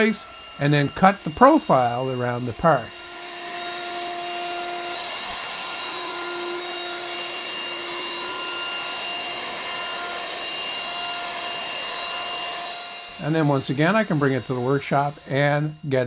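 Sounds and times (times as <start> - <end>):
dust collection hose rushing: 0.0 - 16.0
router spindle whine: 0.0 - 16.0.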